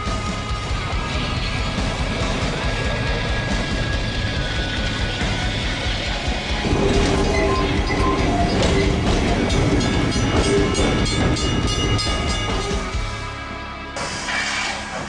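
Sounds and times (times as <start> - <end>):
train running: 0.0 - 15.0
wheels clicking over rails: 0.8 - 13.1.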